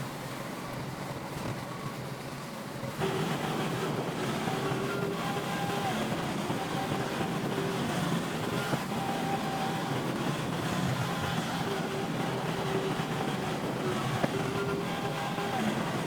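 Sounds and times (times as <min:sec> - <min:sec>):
diesel engine running under load: 0:00.8 - 0:16.0.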